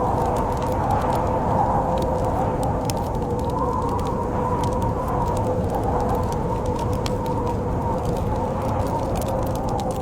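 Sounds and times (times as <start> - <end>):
faint whistling wind: 0.0 - 10.0
storm wind rumbling: 0.0 - 10.0
wood fire crackling and popping: 0.0 - 10.0.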